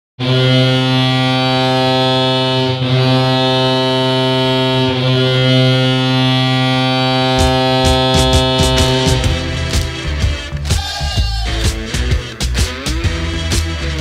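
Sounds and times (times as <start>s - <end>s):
goal horn blast: 0.2s - 12.3s.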